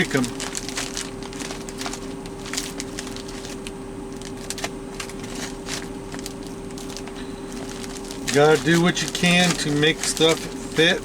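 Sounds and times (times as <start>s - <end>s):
frozen fish snapping: 0.0s - 11.0s
plastic packaging crackling: 0.0s - 11.0s
steady hum: 0.0s - 11.0s.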